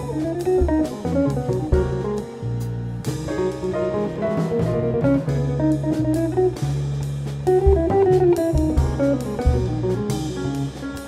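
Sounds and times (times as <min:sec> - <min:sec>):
drums with cymbal strokes: 0:00.0 - 0:11.0
electric guitar melody: 0:00.0 - 0:11.0
walking double bass: 0:00.0 - 0:11.0.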